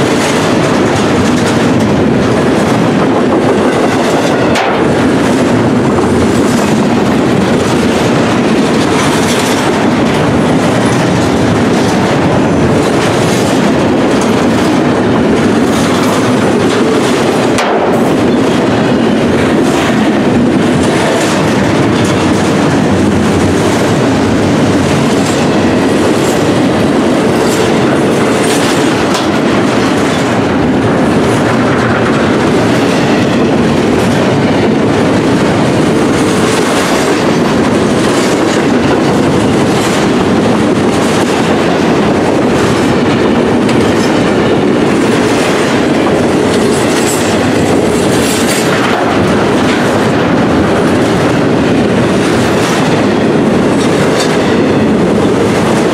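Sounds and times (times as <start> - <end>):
freight train wheels rumbling: 0.0 - 55.9
wheels clicking over rail joints: 0.0 - 55.9.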